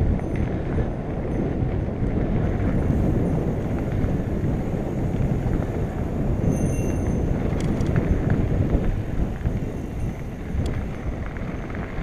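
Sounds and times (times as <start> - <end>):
bike rattling: 0.0 - 12.0
bike tyres rumbling on dirt: 0.0 - 12.0.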